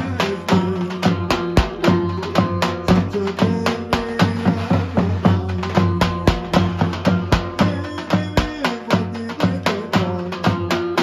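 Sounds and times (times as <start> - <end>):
bass drum beating fast rhythm: 0.0 - 11.0
sustained folk melody: 0.0 - 11.0.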